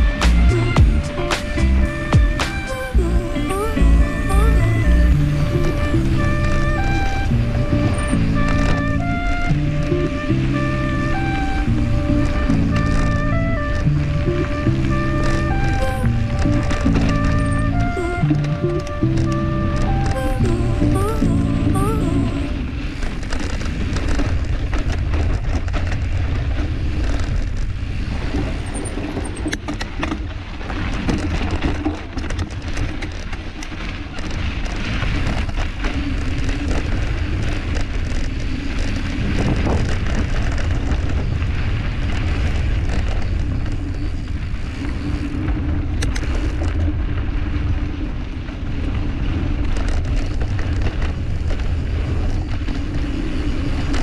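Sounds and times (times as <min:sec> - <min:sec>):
bike tyre noise on dirt: 0:00.0 - 0:54.0
wind rumbling on microphone: 0:00.0 - 0:54.0.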